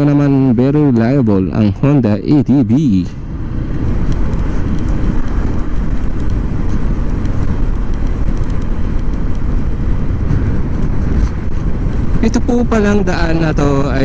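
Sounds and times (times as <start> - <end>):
road noise: 0.0 - 14.0
wind rush on microphone: 0.0 - 14.0.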